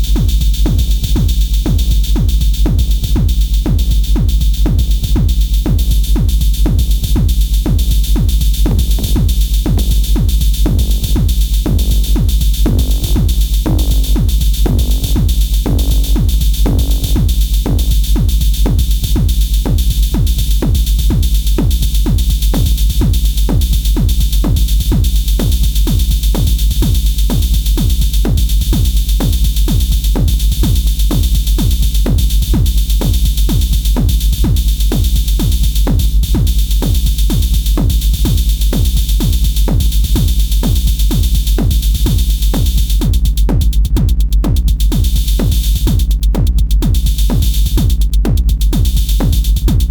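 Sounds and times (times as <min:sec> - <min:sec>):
electronic drum pattern: 0:00.0 - 0:49.9
heavy bass: 0:00.0 - 0:49.9.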